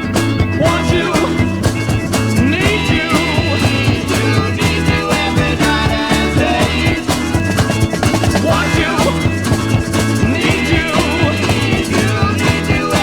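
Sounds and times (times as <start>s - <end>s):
bass and electric instruments: 0.0s - 13.0s
drums keeping a beat: 0.0s - 13.0s.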